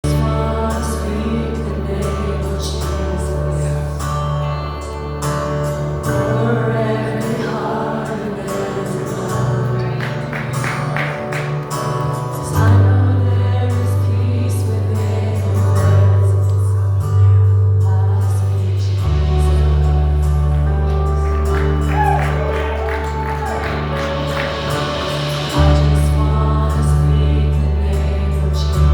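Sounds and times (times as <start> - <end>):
people singing: 0.0 - 28.9
worship band playing: 0.0 - 28.9.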